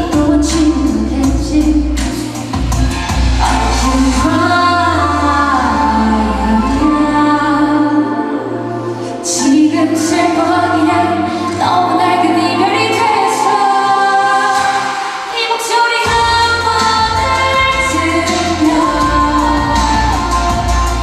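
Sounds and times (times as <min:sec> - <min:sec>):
backing music with bass: 0:00.0 - 0:15.0, 0:16.1 - 0:21.0
woman singing pop song: 0:00.0 - 0:21.0.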